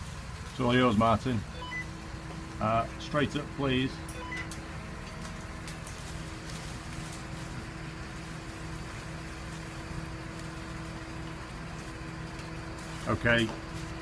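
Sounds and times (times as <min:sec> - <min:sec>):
crane engine running: 0:00.0 - 0:14.0.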